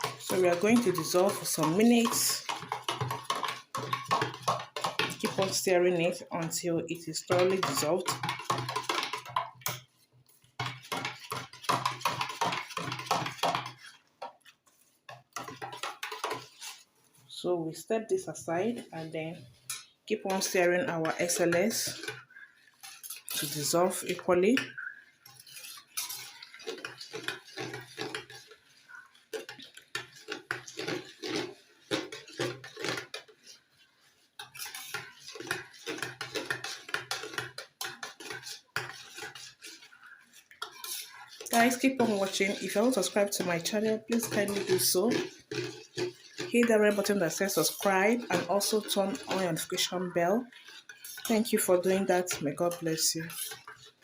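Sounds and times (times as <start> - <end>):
utensil stirring in a bowl: 0.0 - 54.0.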